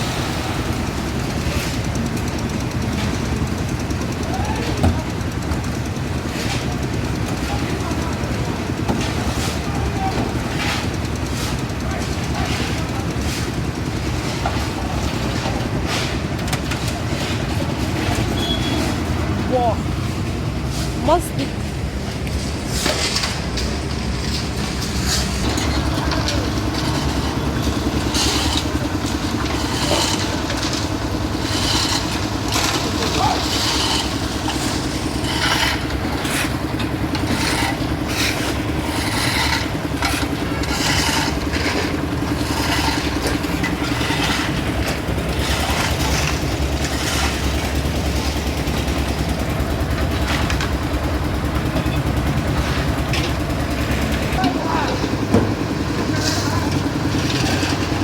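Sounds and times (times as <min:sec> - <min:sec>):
construction machine engine humming: 0:00.0 - 0:58.0
scraping and clattering: 0:05.6 - 0:58.0.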